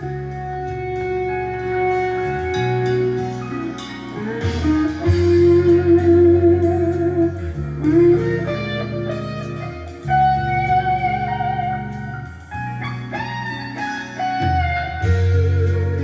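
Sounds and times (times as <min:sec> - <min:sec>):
guitar music with bass: 0:00.0 - 0:16.0.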